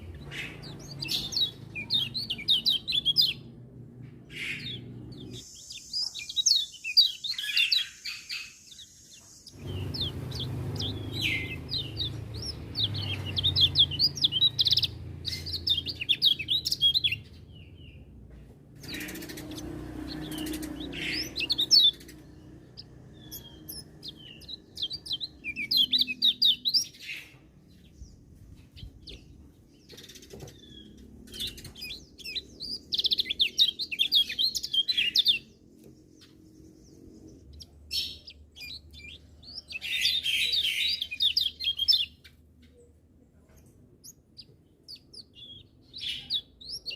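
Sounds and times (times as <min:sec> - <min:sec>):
bird twittering: 0:00.0 - 0:03.5, 0:04.3 - 0:18.0, 0:18.8 - 0:27.4, 0:28.8 - 0:42.3.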